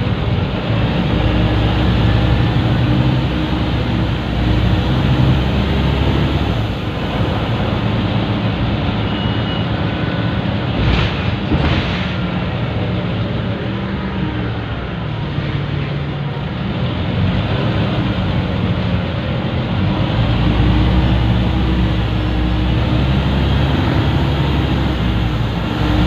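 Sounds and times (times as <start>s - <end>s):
bus engine pulling: 0.0s - 26.0s.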